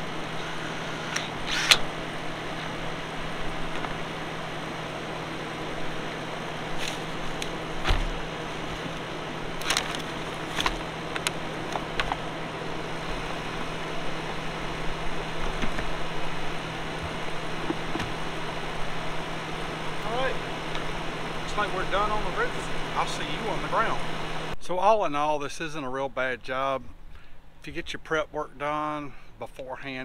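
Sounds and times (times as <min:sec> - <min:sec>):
constant low hum: 0:00.0 - 0:30.0
steady background noise: 0:00.0 - 0:30.0.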